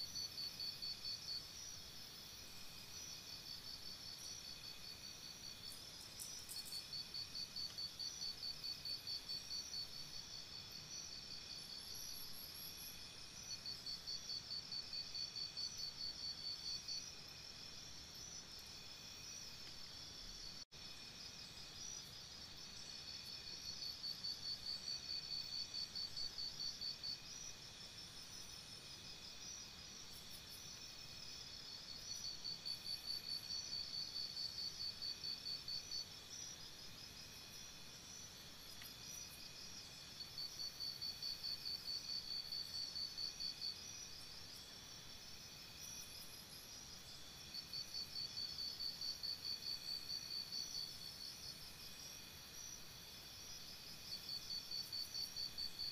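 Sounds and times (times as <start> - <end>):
faint insect chirring: 0.0 - 55.9.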